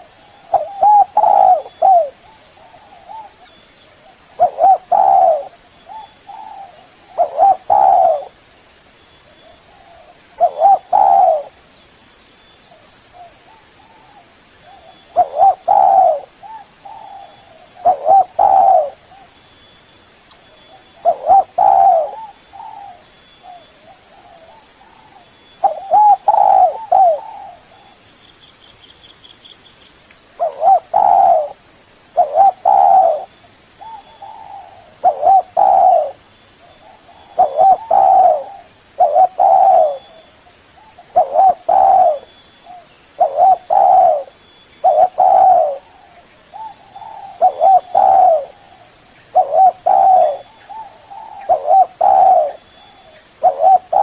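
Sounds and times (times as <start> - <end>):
dove cooing: 0.0 - 8.4, 9.4 - 11.6, 13.1 - 19.3, 20.7 - 28.0, 30.4 - 31.6, 32.2 - 54.0
faint high bird trill: 0.0 - 11.6, 12.2 - 54.0.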